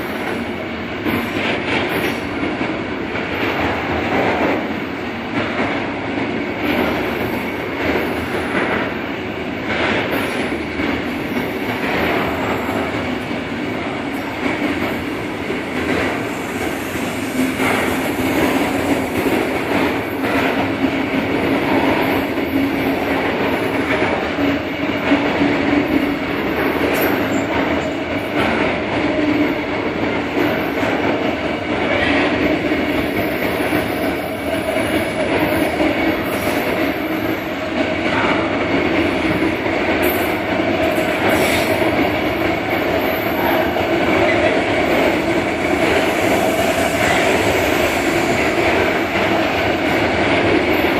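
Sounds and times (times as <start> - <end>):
train wheel and rail noise: 0.0 - 50.9.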